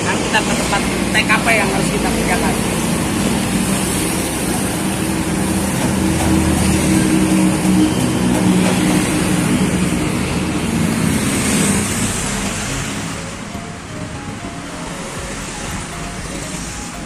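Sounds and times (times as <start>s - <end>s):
road traffic passing: 0.0s - 17.0s
vehicle engine humming: 0.0s - 17.0s.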